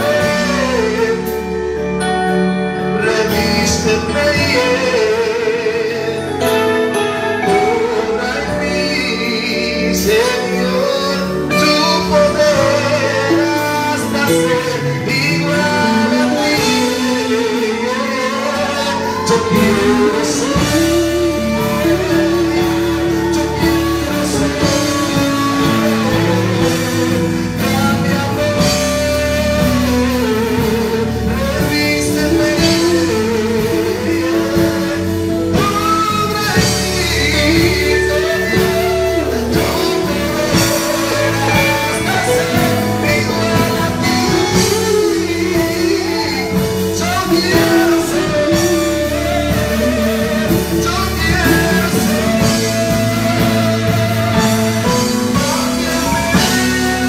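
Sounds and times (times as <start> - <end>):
drums: 0.0 - 57.0
electric guitar: 0.0 - 57.0
keyboard: 0.0 - 57.0
man singing into a microphone: 0.0 - 57.0.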